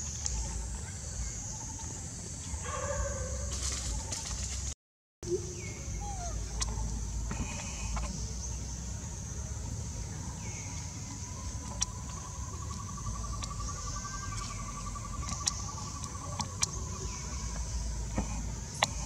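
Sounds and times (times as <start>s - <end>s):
insect chorus: 0.0s - 4.7s, 5.3s - 19.0s.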